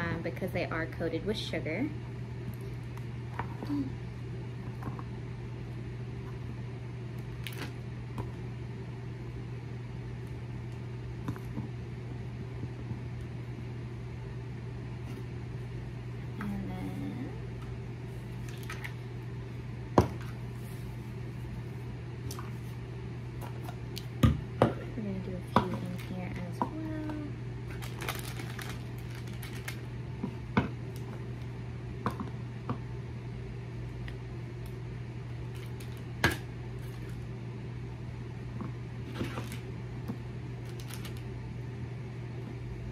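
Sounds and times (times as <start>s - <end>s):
low appliance hum: 0.0s - 42.9s.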